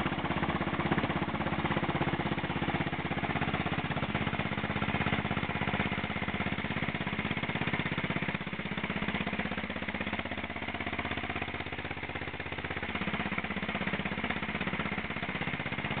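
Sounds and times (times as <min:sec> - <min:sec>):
motorcycle engine climbing slowly: 0:00.0 - 0:16.0.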